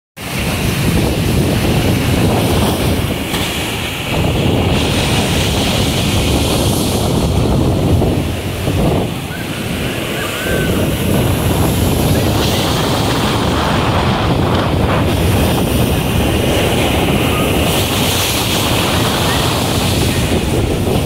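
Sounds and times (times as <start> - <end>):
waves crashing against concrete: 0.2 - 21.0
wind buffeting microphone: 0.2 - 21.0.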